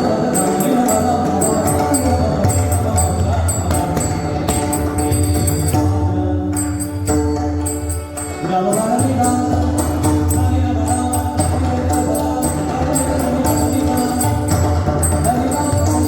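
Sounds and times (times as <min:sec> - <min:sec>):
devotional music: 0:00.0 - 0:16.0
hand drums: 0:00.0 - 0:16.0
small hand cymbals: 0:00.0 - 0:16.0.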